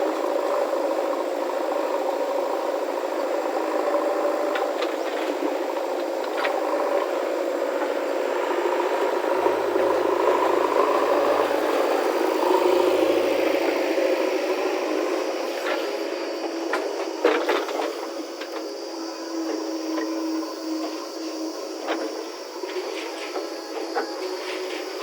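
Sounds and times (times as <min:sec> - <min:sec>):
diesel engine running: 0:04.8 - 0:25.0.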